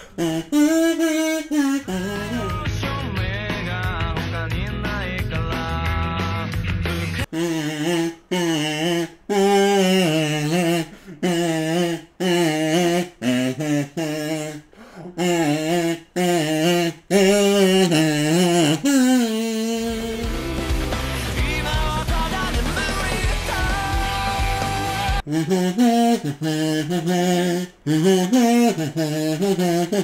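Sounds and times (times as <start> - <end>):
kazoo melody: 0.0 - 3.8, 7.0 - 30.0.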